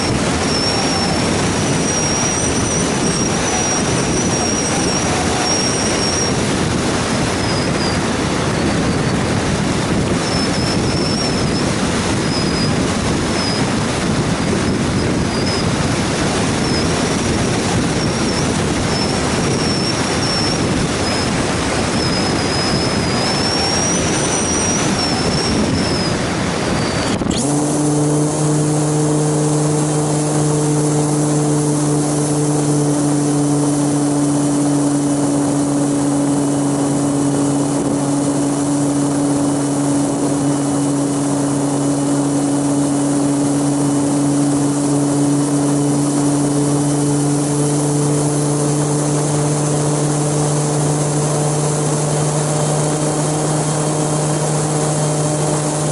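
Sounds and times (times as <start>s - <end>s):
high wavering whine: 0.0s - 55.9s
wind buffeting microphone: 0.0s - 55.9s.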